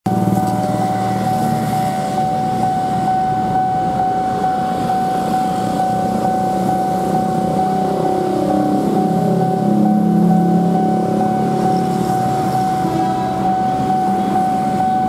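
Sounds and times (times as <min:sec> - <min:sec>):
traffic engine noise: 0:00.0 - 0:15.0
level crossing alarm tone: 0:00.1 - 0:15.0.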